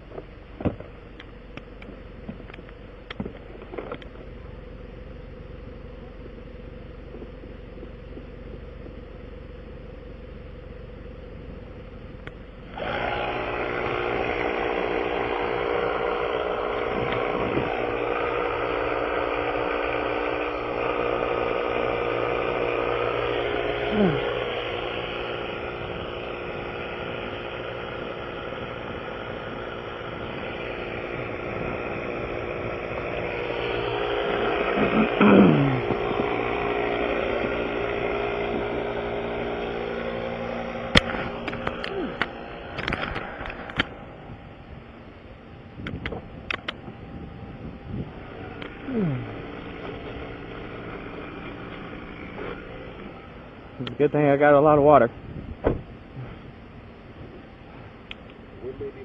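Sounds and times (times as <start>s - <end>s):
air compressor running: 0.0s - 59.0s
low engine idle: 0.0s - 59.0s.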